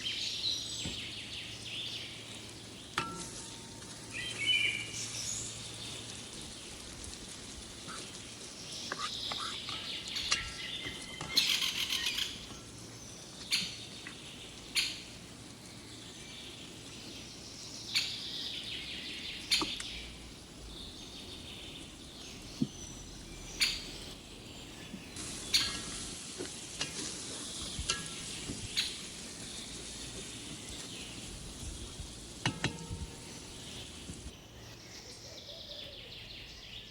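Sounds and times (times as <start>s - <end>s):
curry sizzling in a pot: 0.0s - 34.3s
birds chirping: 0.0s - 36.9s.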